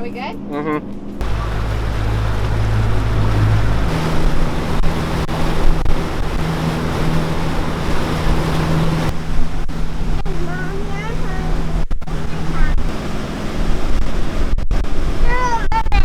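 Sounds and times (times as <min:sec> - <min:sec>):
motorboat engine running: 0:01.2 - 0:16.0
water noise: 0:01.2 - 0:16.0
wind on microphone: 0:01.2 - 0:16.0.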